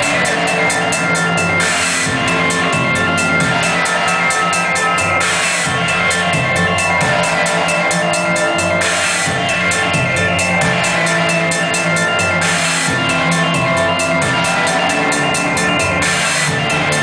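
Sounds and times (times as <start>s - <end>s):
distorted noise music: 0.0s - 17.0s.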